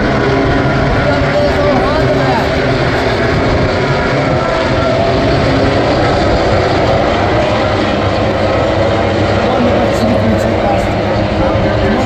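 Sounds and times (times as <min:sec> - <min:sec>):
loud steady engine noise: 0:00.0 - 0:12.0.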